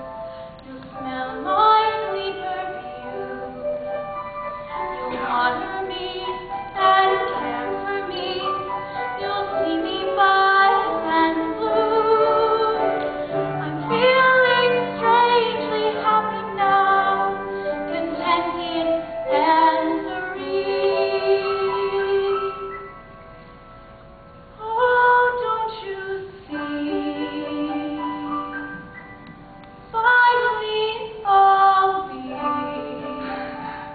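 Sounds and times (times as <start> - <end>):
woman singing a slow ballad: 0.6 - 3.6, 5.1 - 22.6, 24.6 - 28.6, 30.0 - 33.9.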